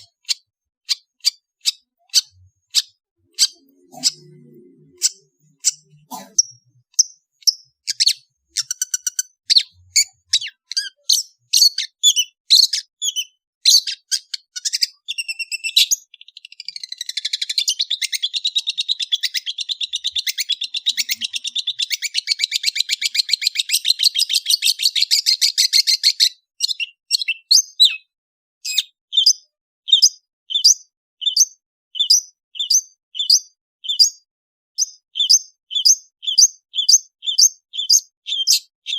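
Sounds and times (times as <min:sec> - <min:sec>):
bird singing chirps and trills: 0:00.0 - 0:34.2, 0:34.8 - 0:38.9.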